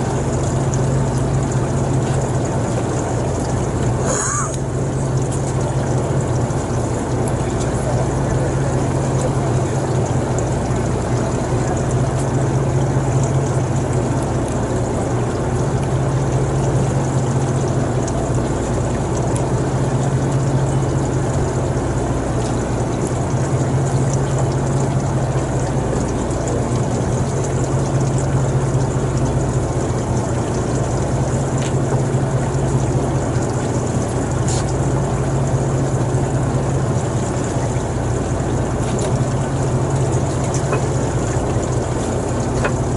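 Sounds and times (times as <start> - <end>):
engine drone: 0.0 - 42.9
low hum: 0.0 - 42.9
rushing water-like noise: 0.0 - 42.9.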